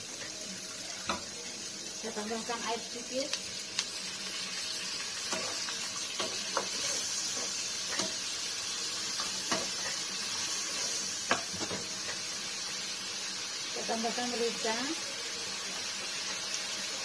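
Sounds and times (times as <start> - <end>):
onions sizzling in a wok: 0.0 - 17.0.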